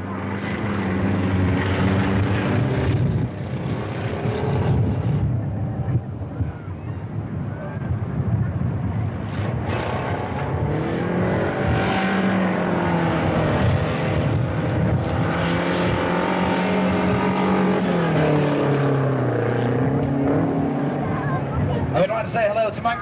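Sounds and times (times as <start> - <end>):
race car engines revving: 0.0 - 22.4.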